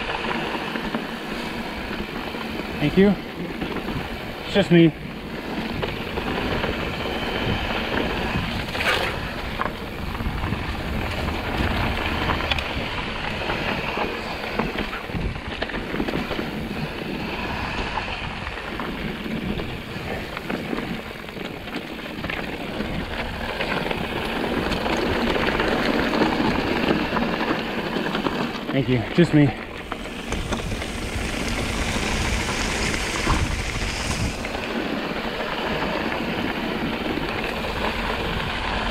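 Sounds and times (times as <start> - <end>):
bike rumbling over rough ground: 0.0 - 38.9
wind rushing over microphone: 0.0 - 38.9.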